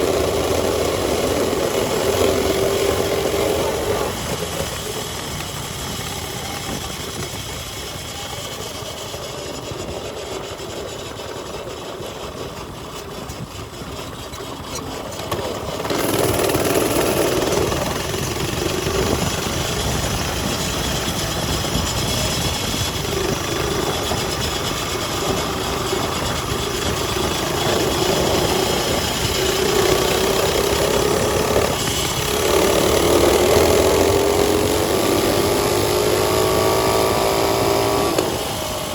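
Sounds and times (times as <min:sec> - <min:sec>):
mini bike engine revving: 0:00.0 - 0:38.9.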